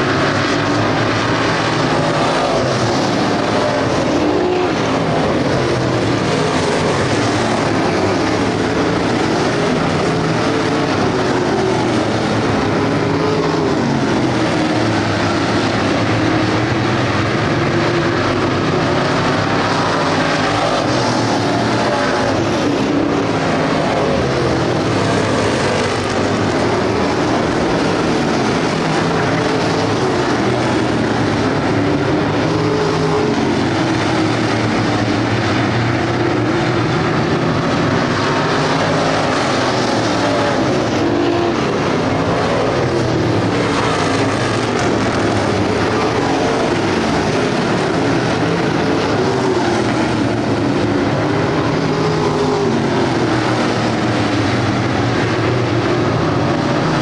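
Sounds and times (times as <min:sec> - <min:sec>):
race car engines at speed: 0:00.0 - 0:57.0.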